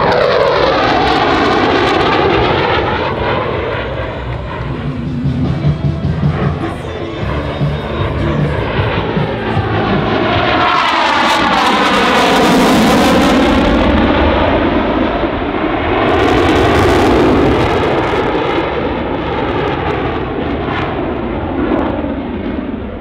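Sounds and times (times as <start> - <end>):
jet noise overhead: 0.0 - 23.0.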